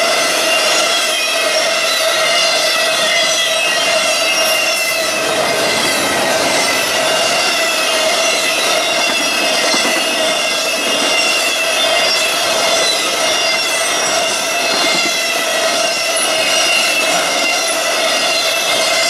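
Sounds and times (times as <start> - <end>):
high ringing and squealing: 0.0 - 19.0
steel wheels on rail: 0.0 - 19.0.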